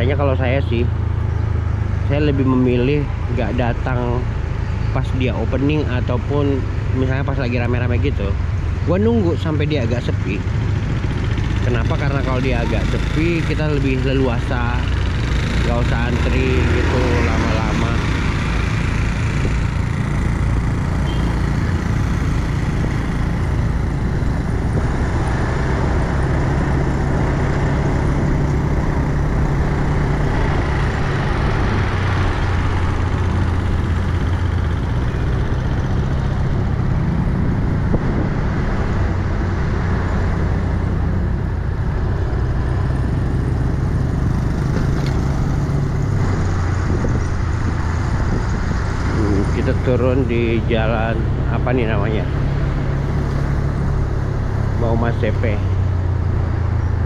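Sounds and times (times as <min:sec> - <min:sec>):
road and traffic noise: 0:00.0 - 0:57.0
motorcycle engine running: 0:05.6 - 0:57.0.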